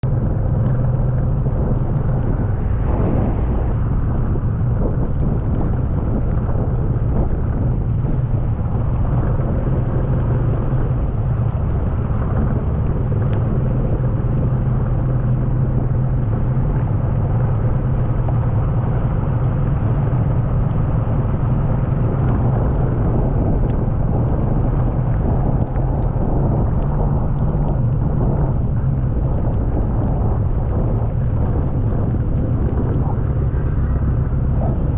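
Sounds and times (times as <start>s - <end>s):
floodwater rushing over road: 0.0s - 34.9s.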